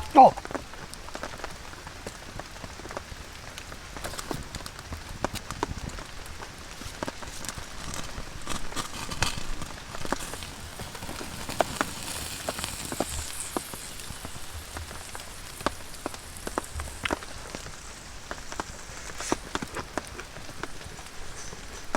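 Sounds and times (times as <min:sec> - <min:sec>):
heavy raindrops tapping: 0:00.0 - 0:21.9
rain pattering: 0:00.0 - 0:21.9.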